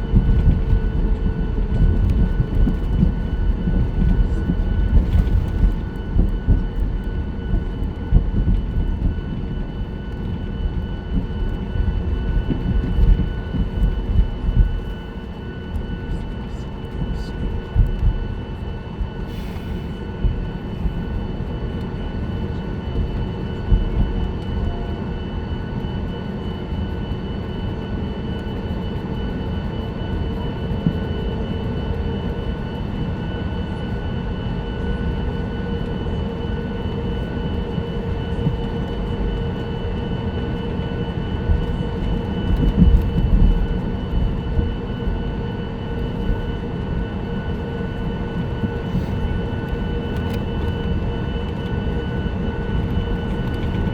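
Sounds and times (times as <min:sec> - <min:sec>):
airplane cabin engine hum: 0:00.0 - 0:53.9.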